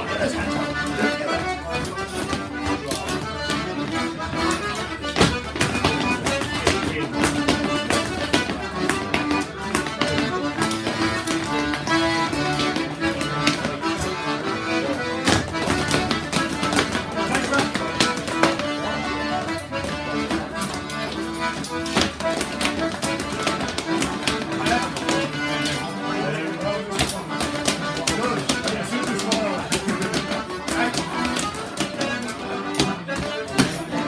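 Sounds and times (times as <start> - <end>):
accordion folk dance tune: 0.0 - 34.0.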